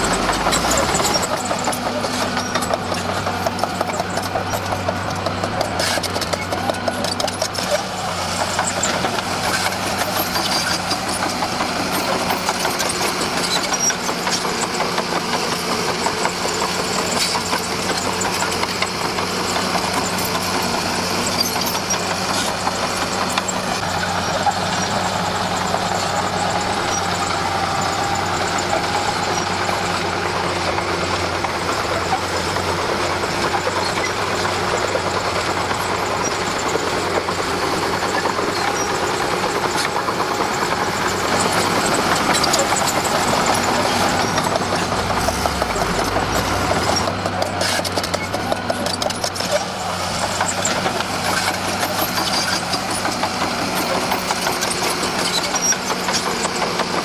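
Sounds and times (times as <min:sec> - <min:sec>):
bulldozer diesel engine running: 0:00.0 - 0:57.0
tracks clattering: 0:00.0 - 0:57.0.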